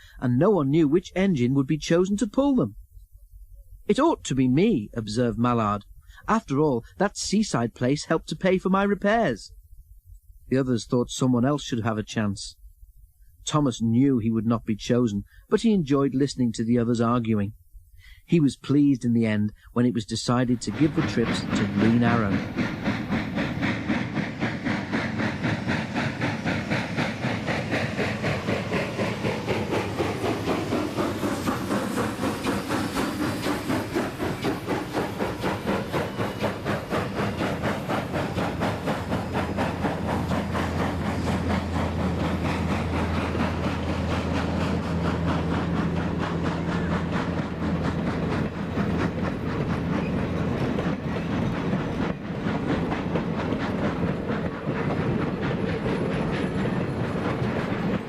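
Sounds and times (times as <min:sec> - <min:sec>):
steam train running: 0:00.0 - 0:58.0.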